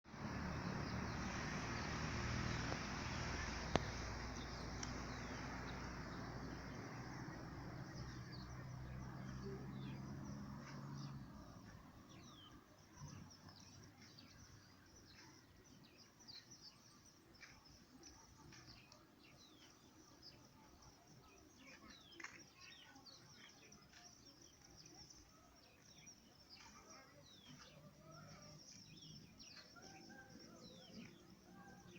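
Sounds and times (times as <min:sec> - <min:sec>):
birds chirping and twittering: 0:00.2 - 0:31.9.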